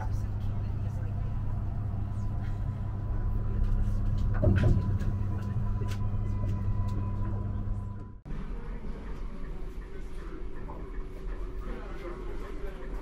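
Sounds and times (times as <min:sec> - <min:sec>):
train carriage low hum: 0:00.0 - 0:13.0.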